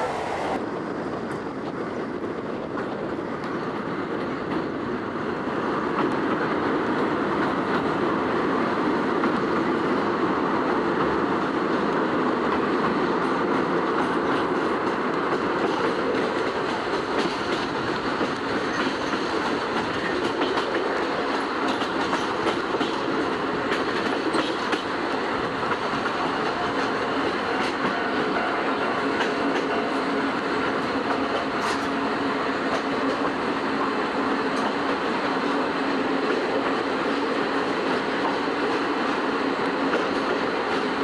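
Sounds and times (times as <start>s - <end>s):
train wheels rumbling on rail: 0.0s - 41.0s
rail joint clicks: 0.6s - 41.0s.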